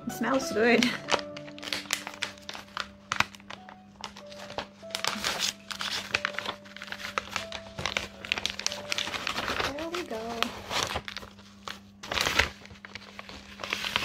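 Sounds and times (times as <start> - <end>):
plastic pouch crinkling: 0.8 - 14.0.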